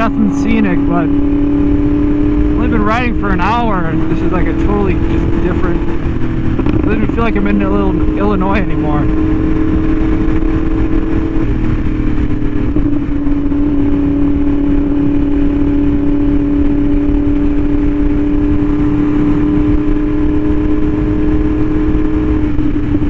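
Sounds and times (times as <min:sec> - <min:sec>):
motorcycle engine cruising: 0:00.0 - 0:23.0
steady low rumble: 0:00.0 - 0:23.0.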